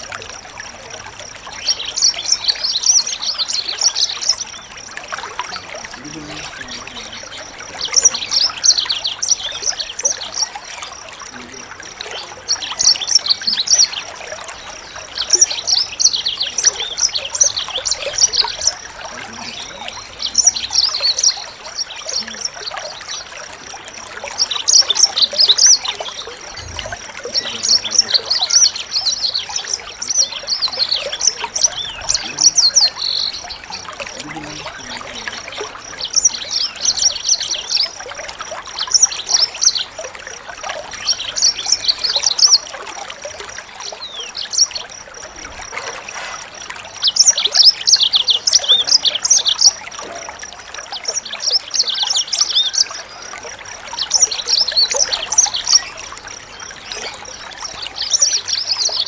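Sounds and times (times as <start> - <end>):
songbird twittering: 0.0 - 59.0
water trickling: 0.0 - 59.0.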